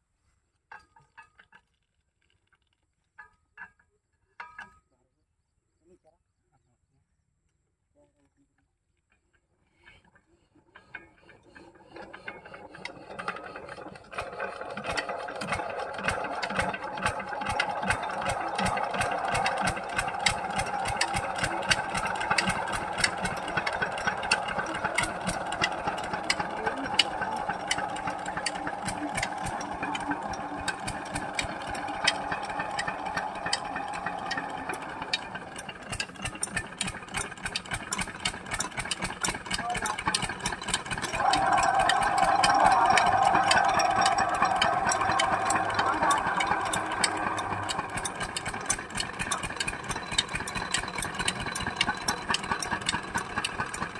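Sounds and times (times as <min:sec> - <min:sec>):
diesel engine starting and knocking: 0:10.7 - 0:53.9.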